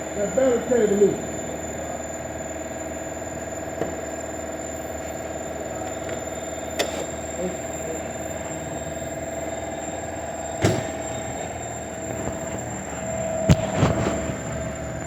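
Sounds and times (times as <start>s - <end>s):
mechanical hum with pitched tone: 0.0s - 15.0s.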